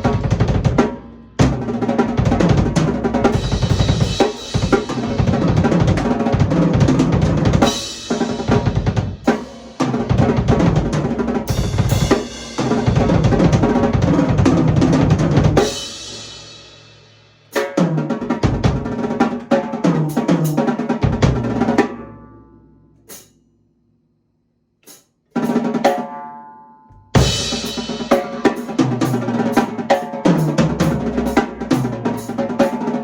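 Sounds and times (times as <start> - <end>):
drum kit playing grooves: 0.0 - 22.0, 27.2 - 33.0
drum kit ringing out: 0.0 - 22.0, 27.1 - 33.0.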